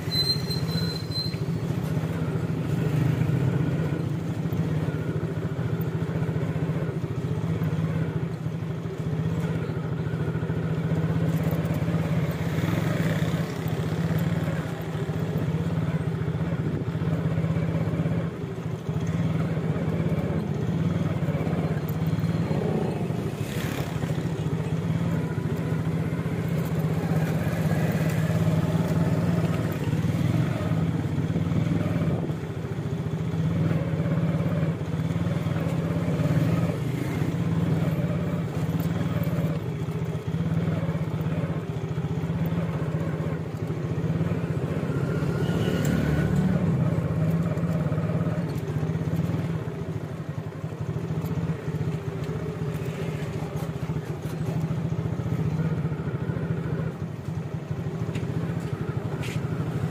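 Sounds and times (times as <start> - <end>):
motorcycle engine: 0.0 - 59.9
traffic engine drone: 0.0 - 59.9.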